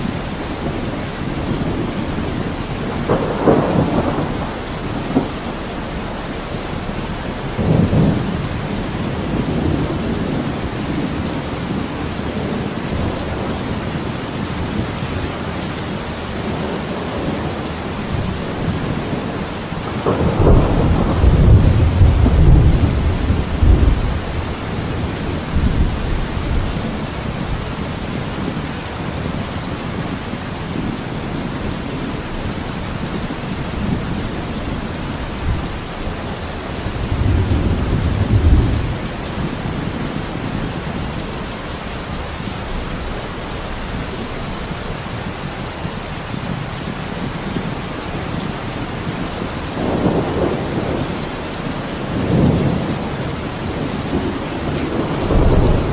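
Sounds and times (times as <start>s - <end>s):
heavy rain hissing: 0.0s - 55.9s
low thunder rumbling: 0.0s - 55.9s.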